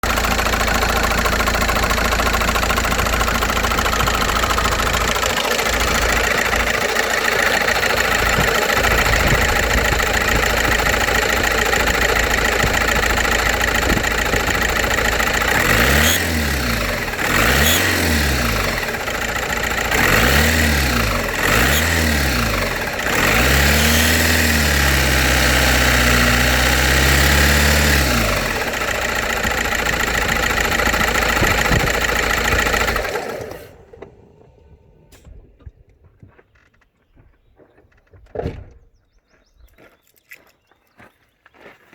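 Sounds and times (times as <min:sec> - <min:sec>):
engine revving: 0:00.0 - 0:35.4
loud engine ticking: 0:00.0 - 0:35.9
diesel engine idling: 0:00.0 - 0:36.2.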